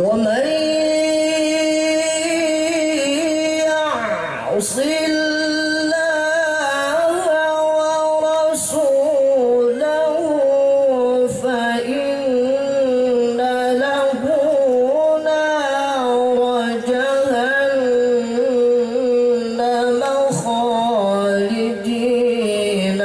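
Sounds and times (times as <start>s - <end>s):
man reciting melodically: 0.0s - 23.0s.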